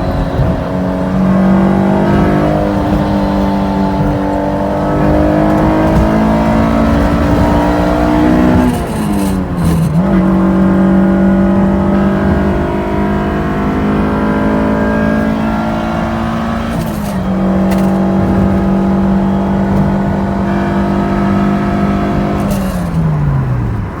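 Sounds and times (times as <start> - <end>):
car engine pulling: 0.0 - 24.0.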